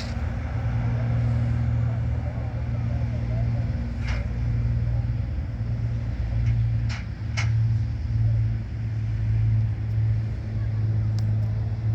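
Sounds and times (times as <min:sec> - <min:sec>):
engine droning: 0:00.0 - 0:11.9.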